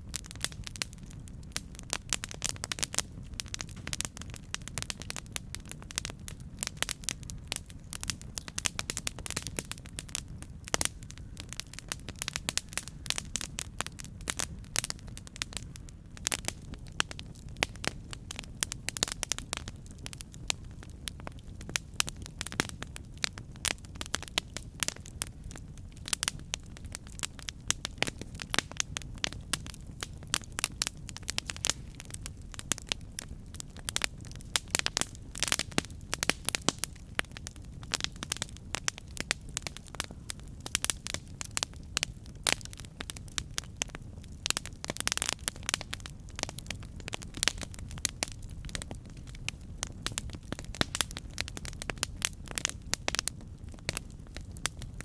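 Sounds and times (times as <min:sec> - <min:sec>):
burning wood crackling and popping: 0:00.0 - 0:55.0
low rumble of flame: 0:00.0 - 0:55.0.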